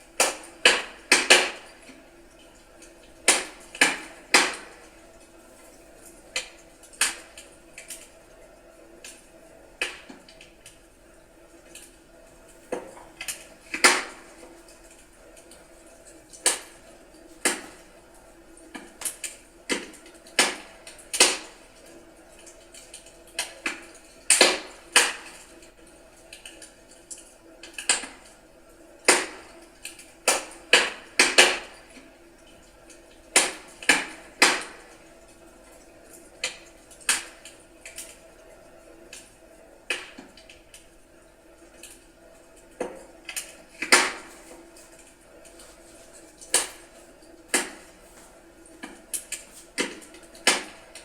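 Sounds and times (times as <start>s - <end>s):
firewood crackling in fireplace: 0.0s - 51.0s.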